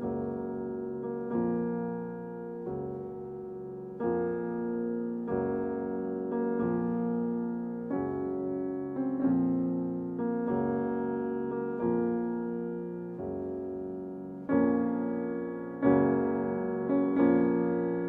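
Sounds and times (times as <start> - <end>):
electric piano chords: 0.0 - 18.0.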